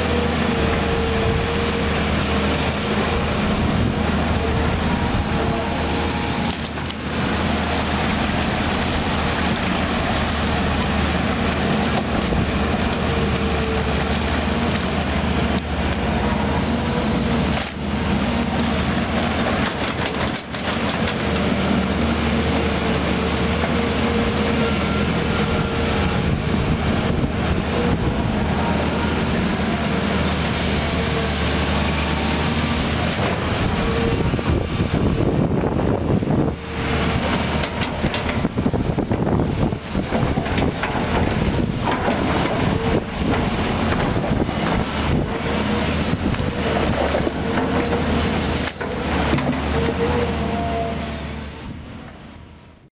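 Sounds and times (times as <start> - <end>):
excavator diesel engine humming: 0.0 - 52.9.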